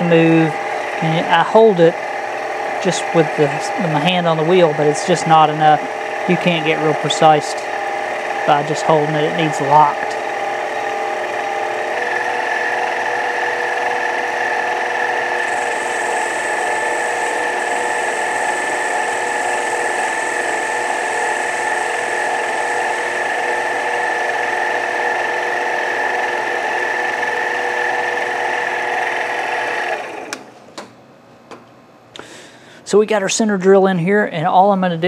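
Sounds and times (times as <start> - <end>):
lathe motor whine: 0.0 - 30.5.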